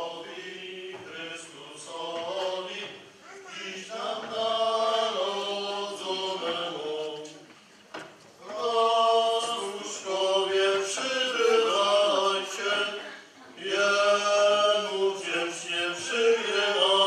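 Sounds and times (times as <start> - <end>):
group singing a carol: 0.0 - 17.0.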